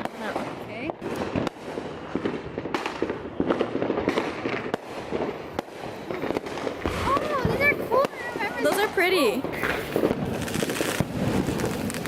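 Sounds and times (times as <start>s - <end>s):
firecrackers crackling: 0.0s - 12.0s
fireworks bangs: 0.0s - 12.0s.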